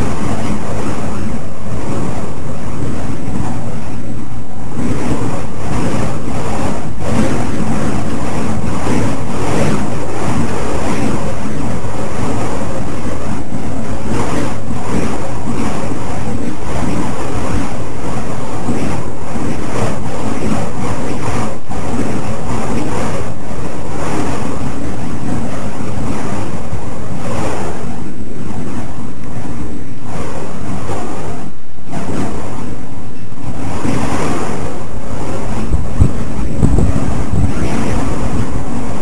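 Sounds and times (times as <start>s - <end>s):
fire poi whooshing: 0.0s - 39.0s
wind buffeting microphone: 0.0s - 39.0s.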